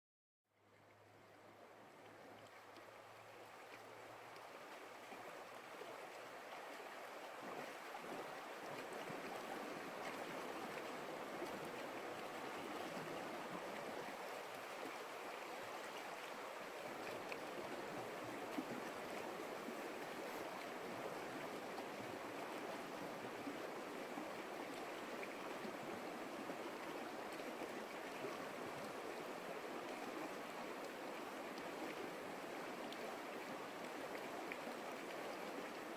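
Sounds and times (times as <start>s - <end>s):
stream water rushing: 1.4s - 35.9s.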